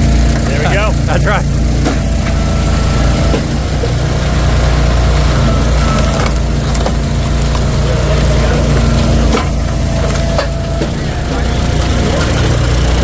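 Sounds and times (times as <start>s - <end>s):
log splitter engine running: 0.0s - 13.0s.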